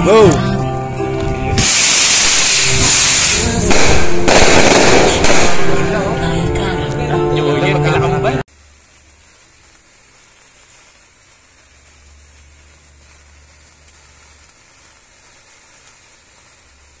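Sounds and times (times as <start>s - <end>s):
sparklers fizzing: 1.2s - 7.0s, 8.4s - 17.0s.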